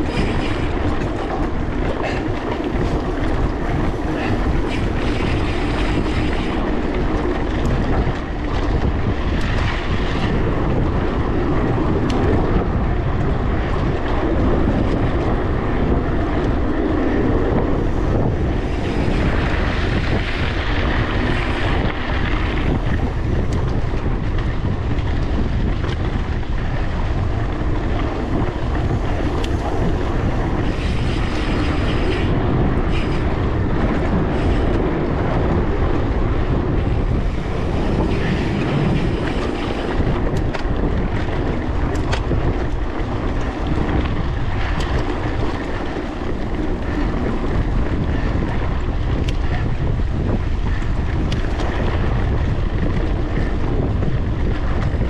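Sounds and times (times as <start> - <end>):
small clicks and rattles: 0.0 - 55.0
tyres rushing on gravel: 0.0 - 55.0
wind buffeting microphone: 0.0 - 55.0.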